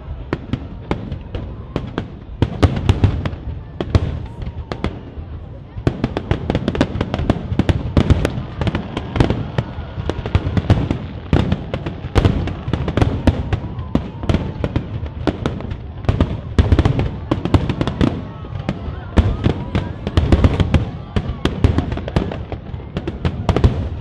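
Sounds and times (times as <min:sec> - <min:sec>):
firework bangs and crackles: 0:00.0 - 0:24.0.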